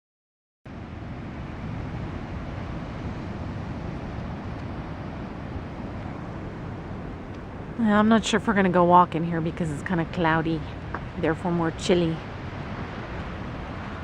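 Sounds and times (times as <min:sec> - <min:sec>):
ocean surf: 0:00.7 - 0:14.0
wind buffeting microphone: 0:00.7 - 0:14.0.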